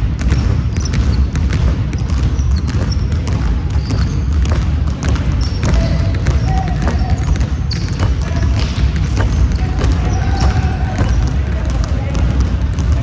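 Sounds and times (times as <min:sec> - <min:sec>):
basketball bouncing on court: 0:00.0 - 0:13.0
sneakers squeaking: 0:00.0 - 0:13.0.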